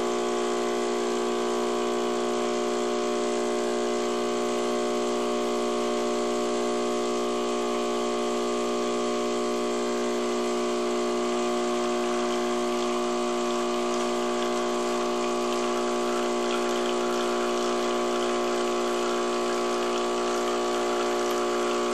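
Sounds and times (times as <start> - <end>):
coffee machine pump humming: 0.0 - 21.9.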